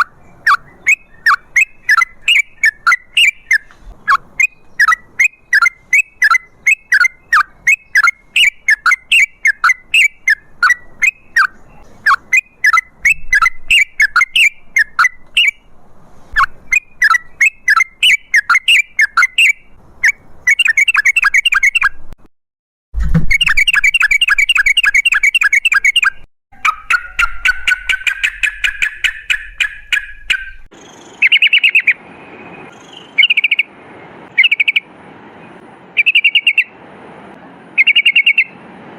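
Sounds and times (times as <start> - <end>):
bird chirping rapidly: 0.0 - 15.7, 16.4 - 22.2, 23.1 - 36.8, 37.8 - 38.6.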